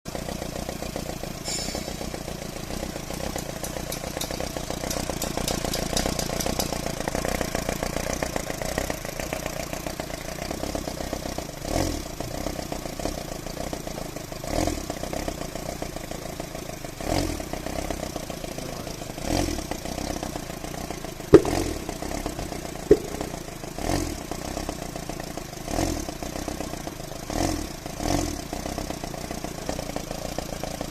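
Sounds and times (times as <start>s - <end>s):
engine idling with misfire: 0.1s - 30.9s.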